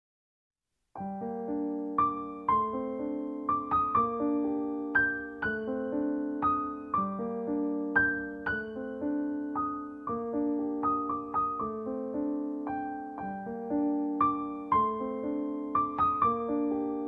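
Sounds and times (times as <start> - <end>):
piano music: 1.0 - 17.0.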